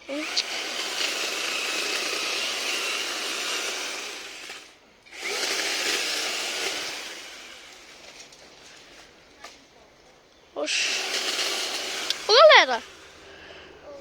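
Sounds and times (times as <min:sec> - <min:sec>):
chainsaw cutting wood: 0:00.0 - 0:09.1, 0:10.6 - 0:13.8.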